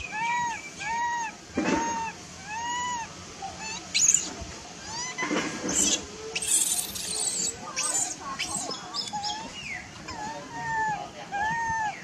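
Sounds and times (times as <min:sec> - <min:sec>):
baby monkey crying: 0:00.0 - 0:12.0.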